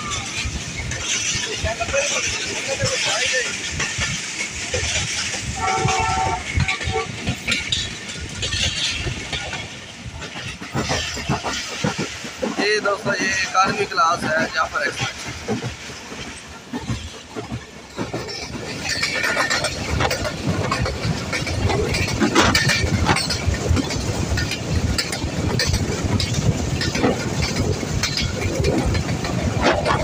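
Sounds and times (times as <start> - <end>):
train running gear rumble: 0.0 - 30.0
train wheels clattering on track: 0.0 - 30.0.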